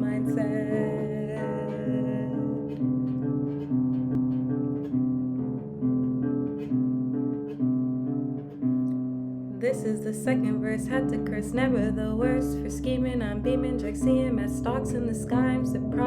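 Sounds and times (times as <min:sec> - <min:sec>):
guitar playing plucked chords: 0:00.0 - 0:16.0.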